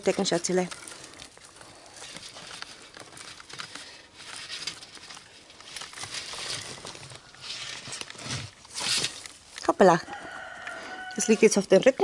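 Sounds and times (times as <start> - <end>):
rustling in dry wood shavings: 0.0 - 11.9.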